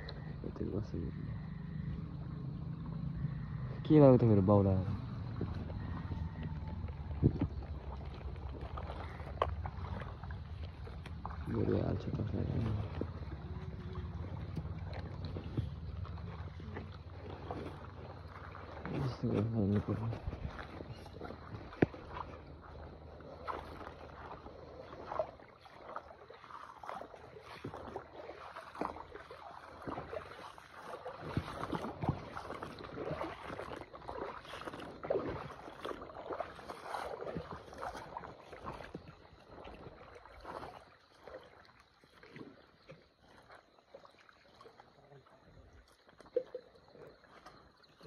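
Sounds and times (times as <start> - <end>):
water splashing in stream: 0.0 - 48.0.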